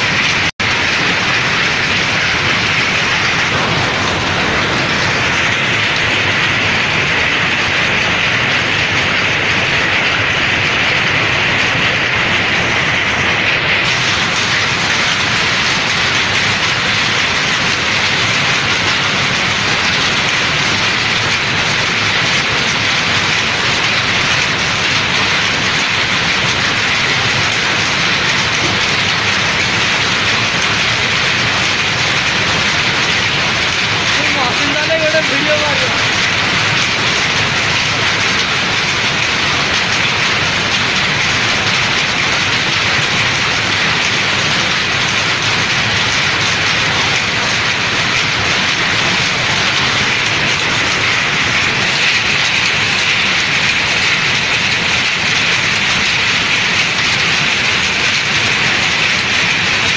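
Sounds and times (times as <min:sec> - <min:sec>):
textile machinery din: 0:00.0 - 0:59.9.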